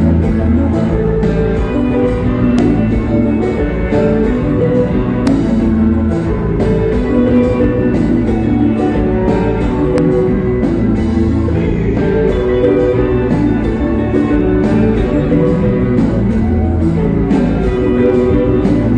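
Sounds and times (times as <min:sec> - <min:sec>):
guitar: 0:00.0 - 0:18.9
steady drum beat: 0:00.0 - 0:18.9.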